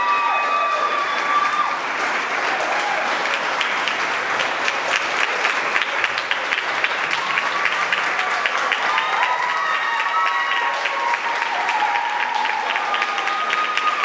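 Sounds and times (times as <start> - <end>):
small group applauding: 0.0 - 14.0.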